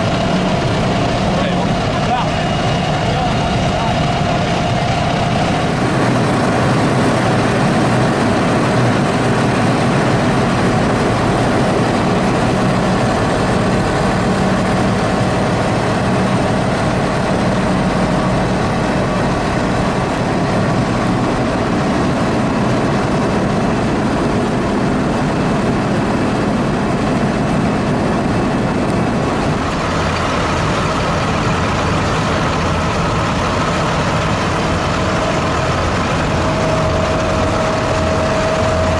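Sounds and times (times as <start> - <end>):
tractor diesel engines idling: 0.0 - 38.9.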